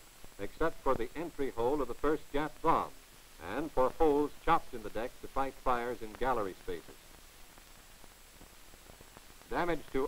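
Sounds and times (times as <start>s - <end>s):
film soundtrack hiss and hum: 0.0s - 10.0s.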